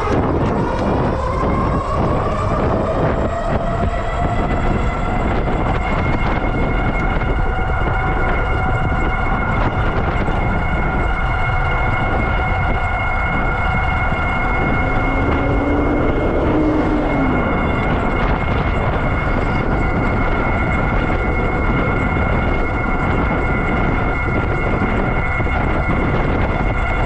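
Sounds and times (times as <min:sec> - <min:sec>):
electric motor whining: 0:00.0 - 0:27.0
wind rumbling on microphone: 0:00.0 - 0:27.0.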